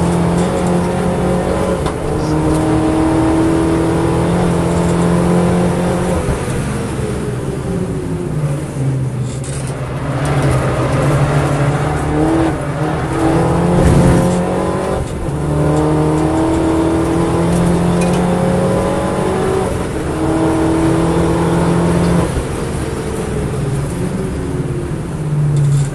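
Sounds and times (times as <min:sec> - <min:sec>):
race car engine accelerating: 0:00.0 - 0:25.9.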